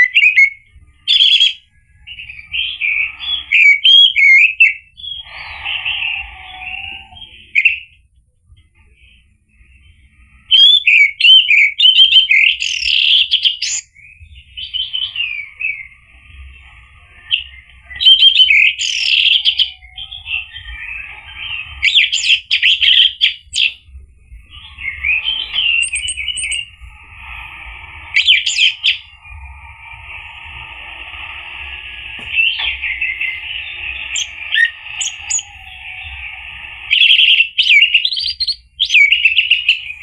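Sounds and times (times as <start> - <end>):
thrush singing whistled phrases: 0.0 - 8.0, 9.0 - 40.0.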